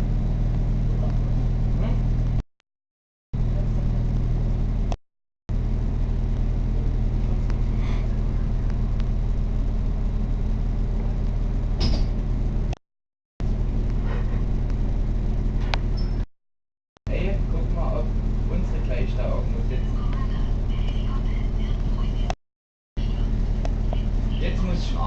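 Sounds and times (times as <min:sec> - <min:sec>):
train carriage hum and rumble: 0:00.0 - 0:02.4, 0:03.4 - 0:12.8, 0:13.4 - 0:16.2, 0:17.1 - 0:22.4, 0:23.0 - 0:25.0.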